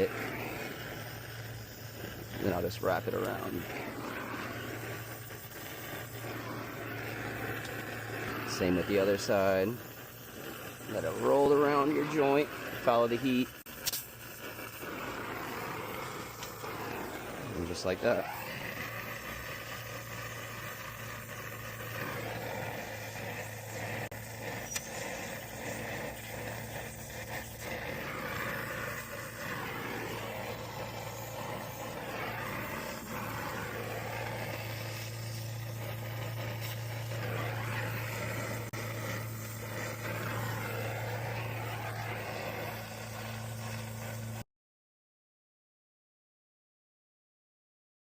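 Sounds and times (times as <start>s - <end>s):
low hum: 0.0s - 44.4s
torch flame hissing: 0.0s - 44.4s.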